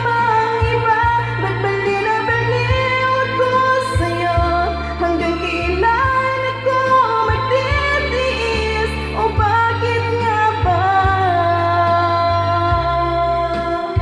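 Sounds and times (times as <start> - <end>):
music backing track: 0.0 - 14.0
woman singing into a microphone: 0.0 - 14.0.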